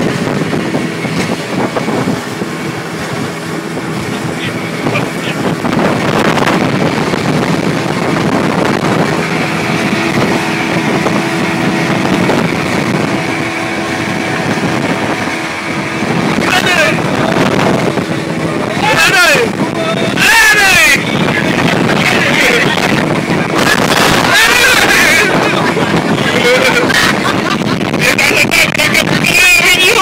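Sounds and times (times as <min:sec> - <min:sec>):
motorboat engine running: 0:00.0 - 0:30.0
rushing water: 0:00.0 - 0:30.0
rushing wind: 0:00.0 - 0:30.0.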